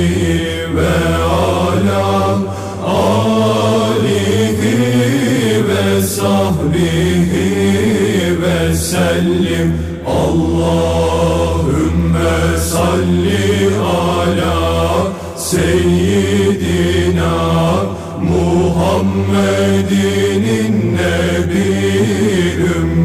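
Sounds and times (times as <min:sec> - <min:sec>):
low drone: 0:00.0 - 0:23.0
person chanting a hymn: 0:00.0 - 0:23.0.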